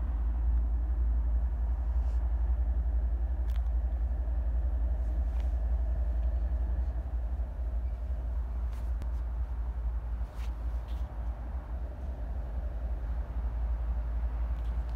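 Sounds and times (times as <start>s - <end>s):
freight train rumble: 0.0s - 14.9s.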